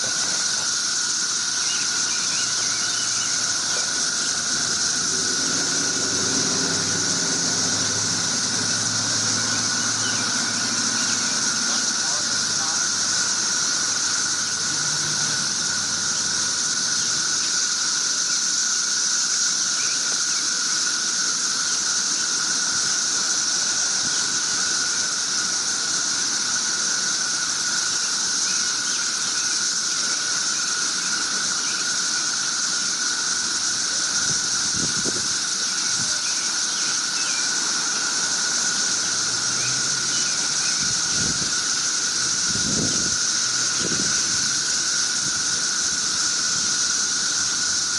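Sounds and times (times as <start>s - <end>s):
cicadas droning: 0.0s - 47.9s.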